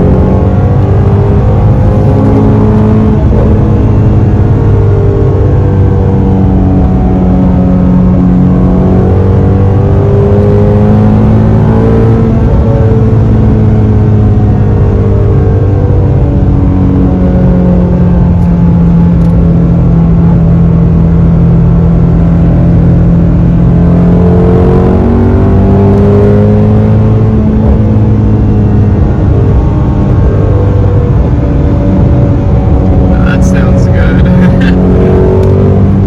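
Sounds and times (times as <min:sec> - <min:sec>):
car engine cruising: 0:00.0 - 0:36.0
road noise: 0:00.0 - 0:36.0.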